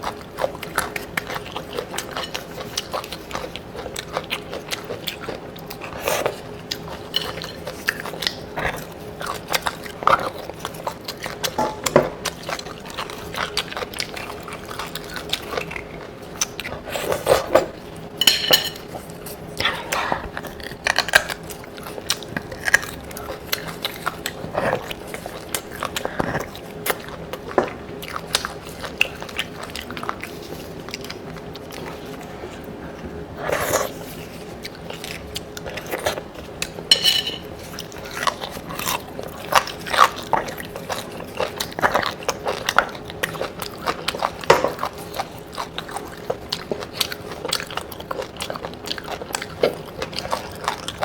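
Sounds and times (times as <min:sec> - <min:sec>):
chewing bone marrow: 0:00.0 - 0:51.0
faint steady hum: 0:00.0 - 0:51.0.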